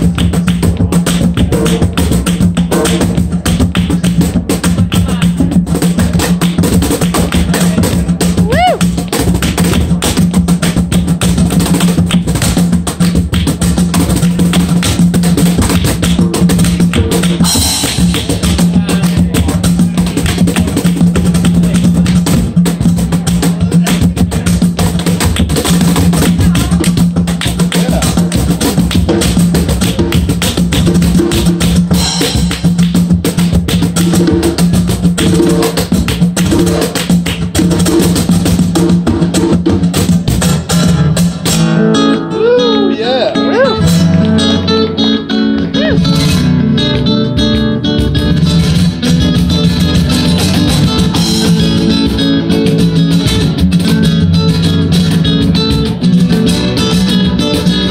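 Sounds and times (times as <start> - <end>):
hand claps: 0.0 - 41.6, 45.6 - 57.9
sharp percussive hits: 0.0 - 41.9, 46.1 - 57.9
acoustic guitar music: 0.0 - 57.9.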